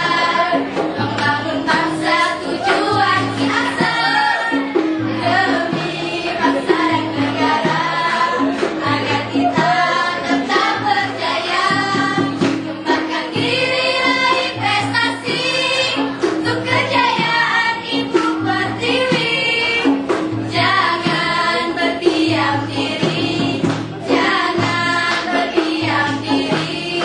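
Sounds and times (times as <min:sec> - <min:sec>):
young voices singing together: 0:00.0 - 0:27.0.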